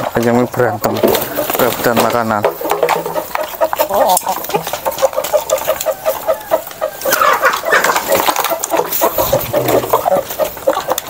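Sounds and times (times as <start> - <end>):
beaks pecking grain: 0.0 - 11.0
chickens clucking: 0.0 - 11.0.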